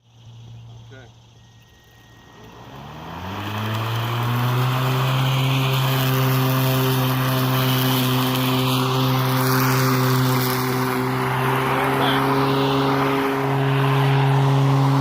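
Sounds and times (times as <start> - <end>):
electric lawn mower running: 0.0 - 15.0.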